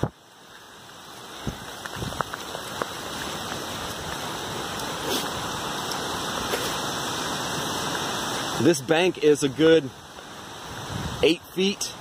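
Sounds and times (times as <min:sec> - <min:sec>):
heavy rain: 0:00.0 - 0:12.0
rushing floodwater: 0:00.0 - 0:12.0.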